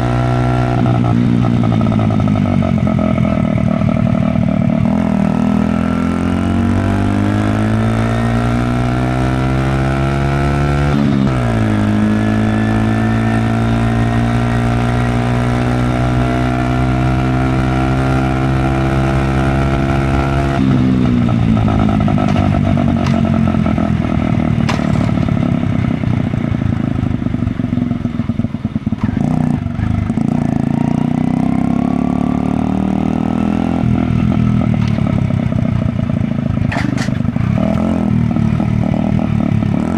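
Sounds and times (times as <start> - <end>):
motorcycle engine revving: 0.0 - 39.9
road noise: 0.0 - 39.9.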